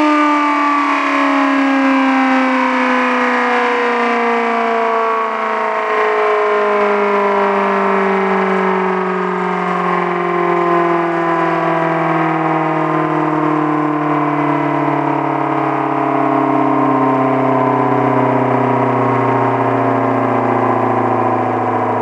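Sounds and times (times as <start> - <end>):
motor-driven siren wailing: 0.0 - 22.0.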